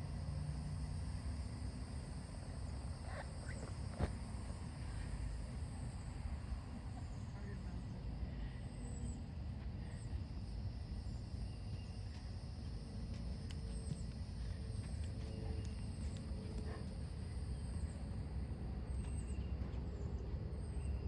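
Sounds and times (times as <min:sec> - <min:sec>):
steady low rumble: 0:00.9 - 0:21.0.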